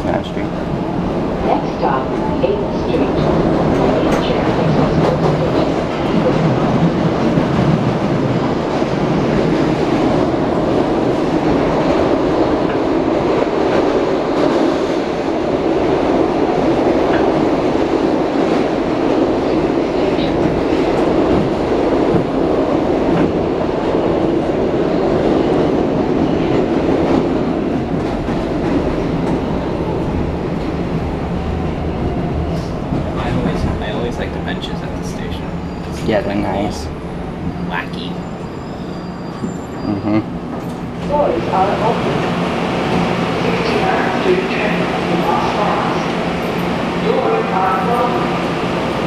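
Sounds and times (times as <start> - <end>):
subway wheels rumbling on rail: 0.0 - 49.0.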